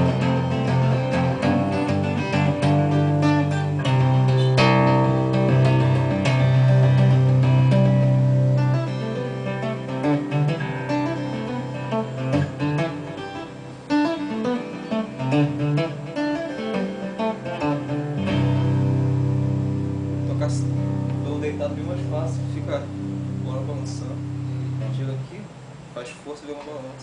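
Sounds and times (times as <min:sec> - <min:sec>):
fingerstyle acoustic guitar: 0:00.0 - 0:25.0.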